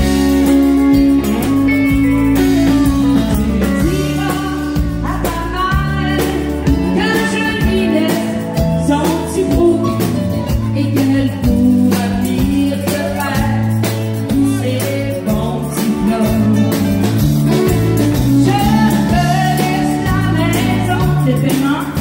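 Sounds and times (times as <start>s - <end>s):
country band playing: 0.0s - 22.0s
woman singing: 0.6s - 22.0s.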